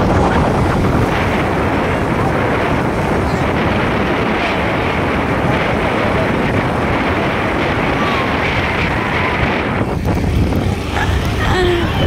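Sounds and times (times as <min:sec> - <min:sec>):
road and traffic noise: 0:00.0 - 0:12.0
wind buffeting microphone: 0:00.0 - 0:12.0.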